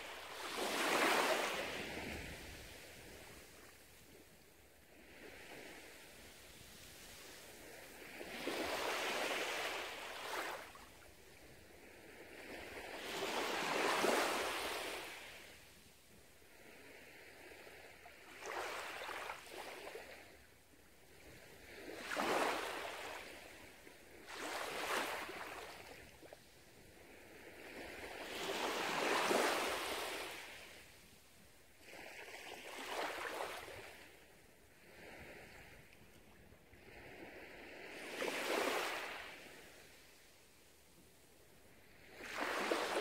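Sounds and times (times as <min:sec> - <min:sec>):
small waves lapping on sand: 0:00.0 - 0:43.0.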